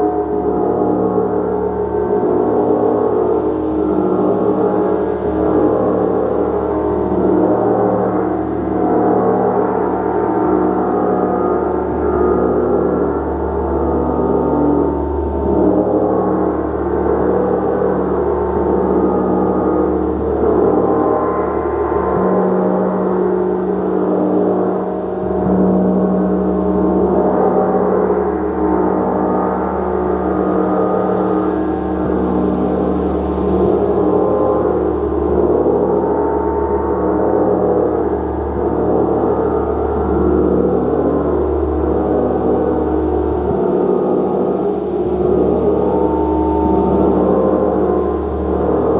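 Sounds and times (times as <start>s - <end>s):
large gong shimmering: 0.0s - 48.9s.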